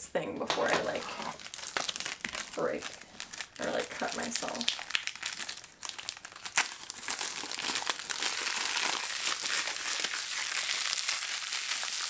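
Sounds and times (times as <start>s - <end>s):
plastic wrap crinkling: 0.4s - 12.0s.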